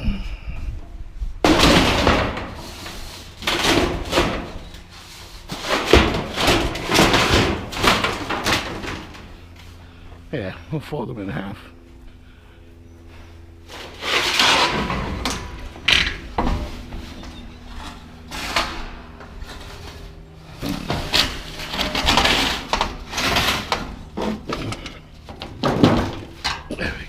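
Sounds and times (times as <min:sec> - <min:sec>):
scrap metal scraping and crumpling: 0:01.4 - 0:09.8, 0:13.6 - 0:27.0.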